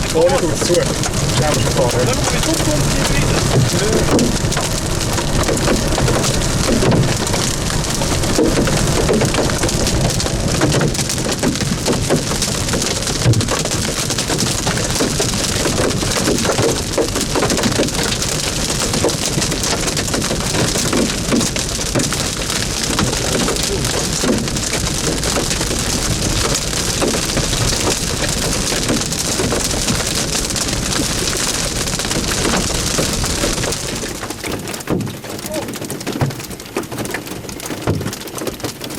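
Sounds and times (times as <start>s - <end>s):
hailstones drumming on a car: 0.0s - 38.9s.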